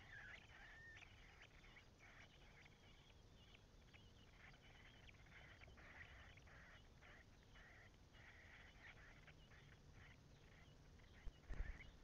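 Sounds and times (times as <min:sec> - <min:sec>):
nestlings cheeping: 0:00.0 - 0:12.0.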